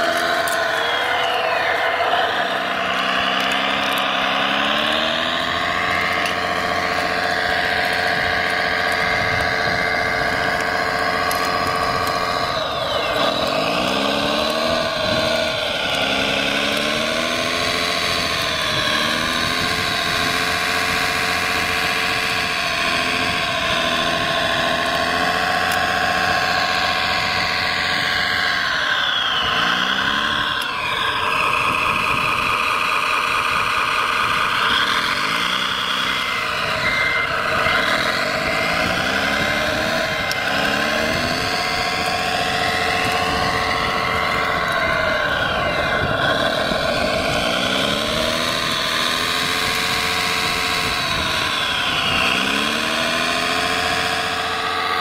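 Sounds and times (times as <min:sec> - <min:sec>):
toy bulldozer motor whining: 0:00.0 - 0:55.0.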